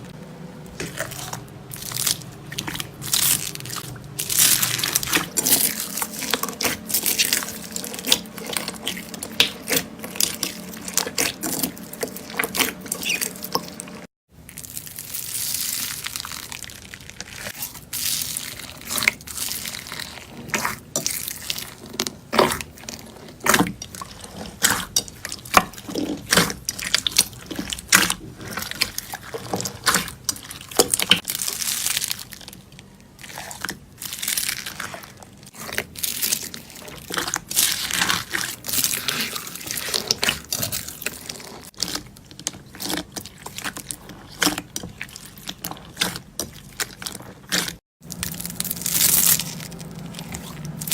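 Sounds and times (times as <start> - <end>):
slime squelching: 0.0 - 50.9.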